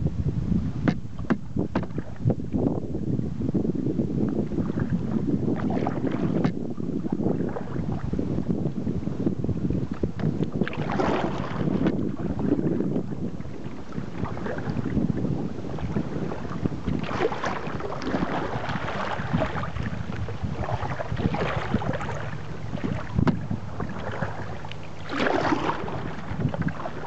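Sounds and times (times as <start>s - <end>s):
water lapping against boat: 0.0s - 27.0s
wind on microphone: 0.0s - 27.0s.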